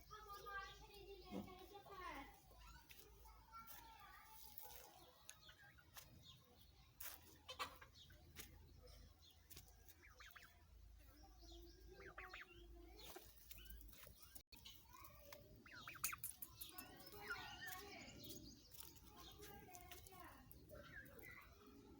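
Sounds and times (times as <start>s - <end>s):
hens and birds calling: 0.0s - 21.9s.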